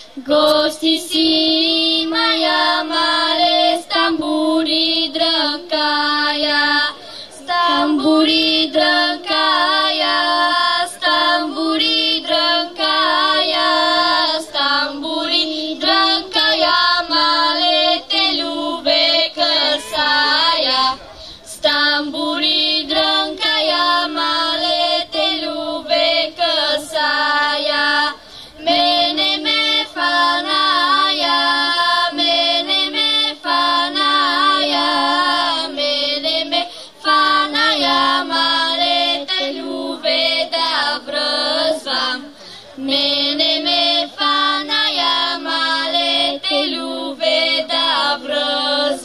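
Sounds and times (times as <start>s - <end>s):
girls singing unaccompanied: 0.0s - 49.0s.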